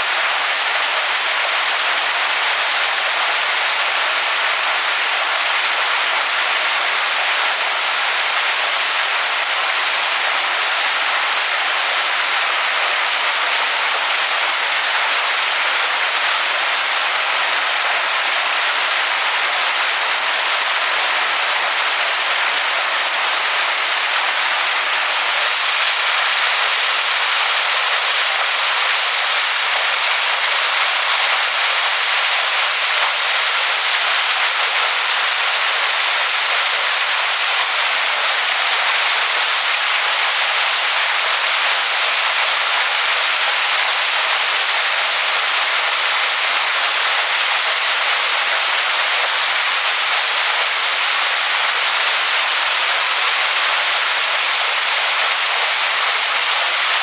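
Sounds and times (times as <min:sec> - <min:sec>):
waterfall pouring onto rocks: 0:00.0 - 0:57.0.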